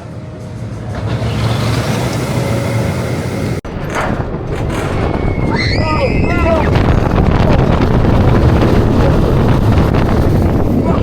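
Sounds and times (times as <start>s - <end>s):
roller coaster rumbling: 0.0s - 11.0s.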